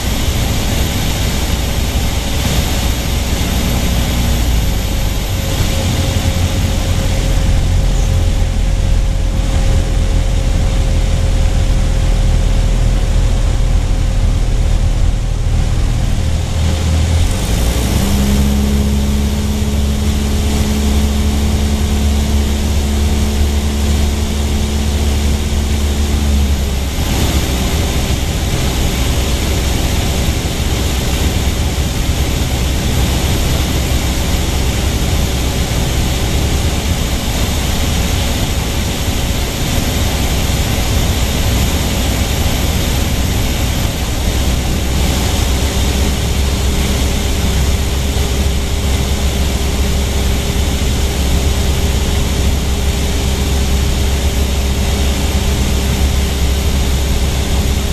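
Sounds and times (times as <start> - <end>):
propeller aircraft engine drone: 0.0 - 57.9.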